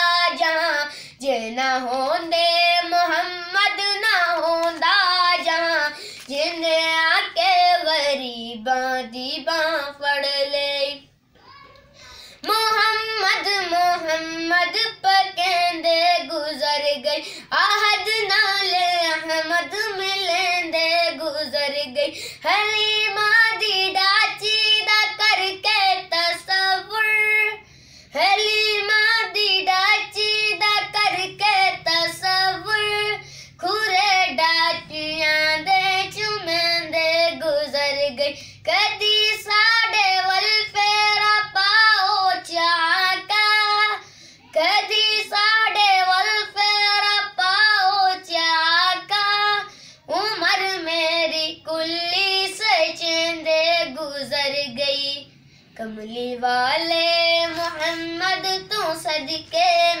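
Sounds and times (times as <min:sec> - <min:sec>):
boy singing solo: 0:00.0 - 1:00.0.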